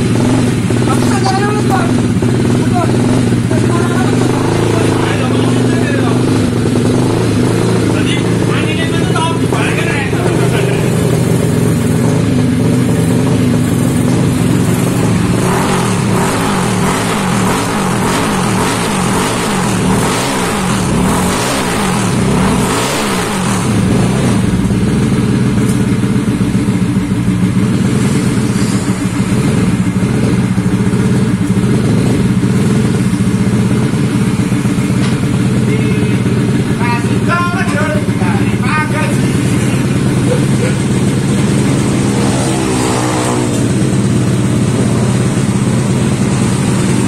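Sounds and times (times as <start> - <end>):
scooter engines revving: 0.0 - 47.0.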